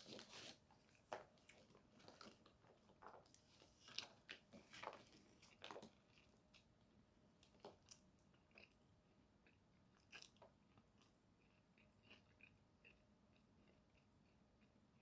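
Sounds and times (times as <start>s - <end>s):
faint chewing: 0.0s - 15.0s.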